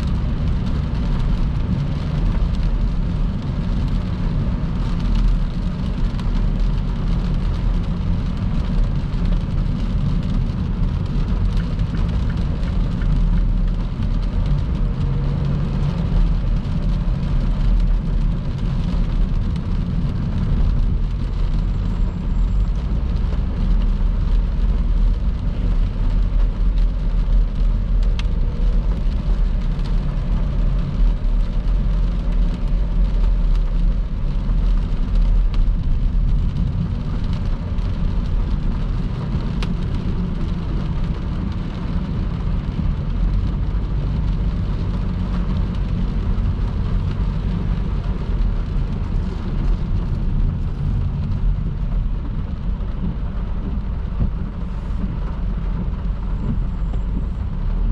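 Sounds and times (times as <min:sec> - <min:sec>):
rain and spray hiss: 0:00.0 - 0:57.9
tyre and road noise: 0:00.0 - 0:57.9.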